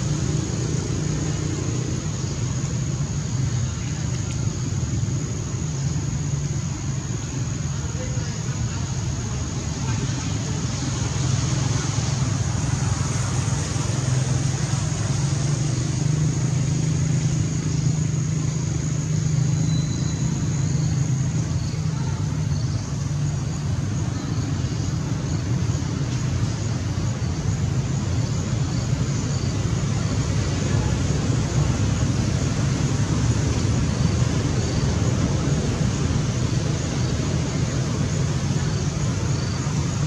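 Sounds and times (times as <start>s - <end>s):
high-pitched hiss: 0.0s - 40.0s
low rumble of traffic: 0.0s - 40.0s.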